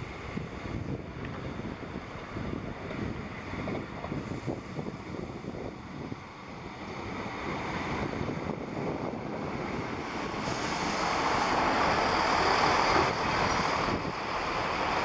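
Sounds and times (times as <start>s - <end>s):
passenger train running past: 0.0s - 15.0s
wind on microphone: 0.0s - 15.0s.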